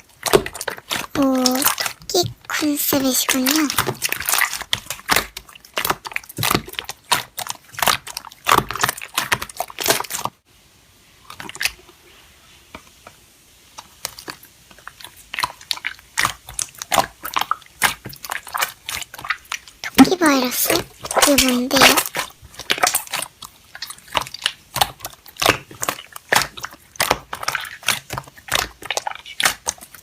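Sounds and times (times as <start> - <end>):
slime crackling and popping: 0.0 - 10.4, 13.8 - 30.0.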